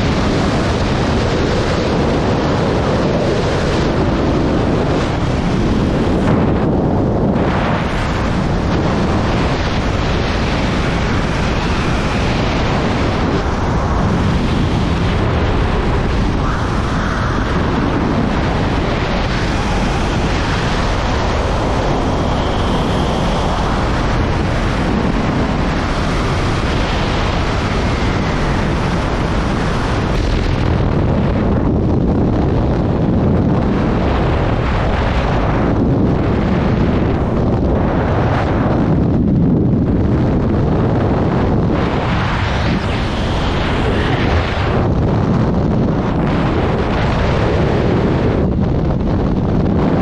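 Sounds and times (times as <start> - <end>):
helicopter rotor and engine: 0.0 - 50.0
wind buffeting microphone: 0.0 - 50.0.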